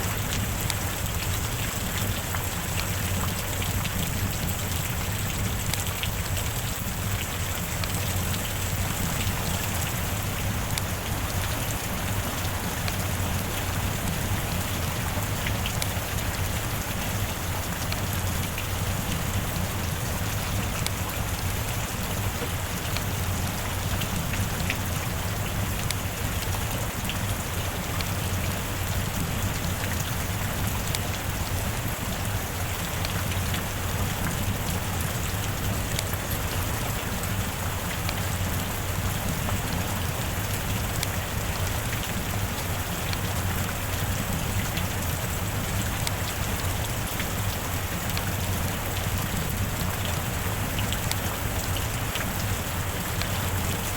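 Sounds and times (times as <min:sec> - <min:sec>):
heavy rain falling: 0:00.0 - 0:53.9
raindrops ticking: 0:00.0 - 0:53.9.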